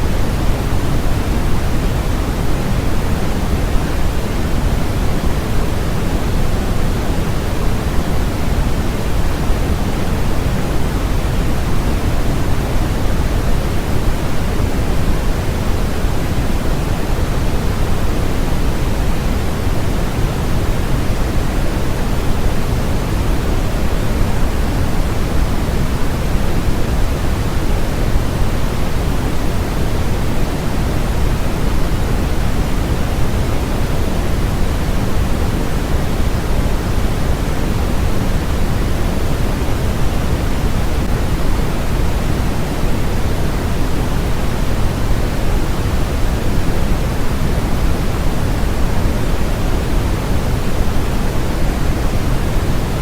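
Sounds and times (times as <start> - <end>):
electronic white noise hiss: 0.0 - 53.0.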